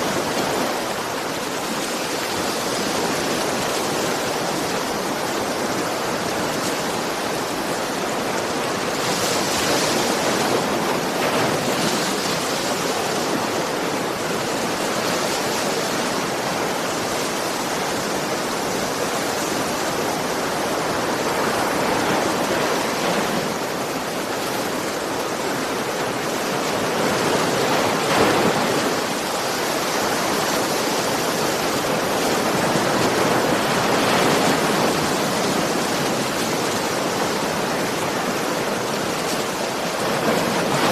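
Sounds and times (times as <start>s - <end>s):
ocean waves washing on shore: 0.0s - 40.9s.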